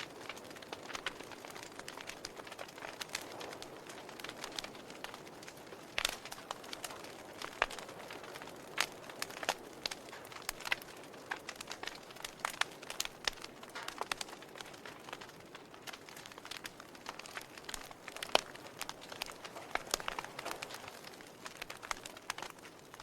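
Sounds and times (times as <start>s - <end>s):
faint fire hiss: 0.0s - 23.0s
wood fire crackling: 0.0s - 23.0s.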